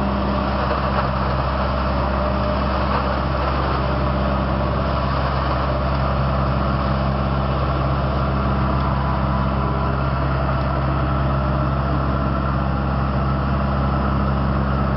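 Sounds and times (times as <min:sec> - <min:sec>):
engine drone: 0:00.0 - 0:14.9.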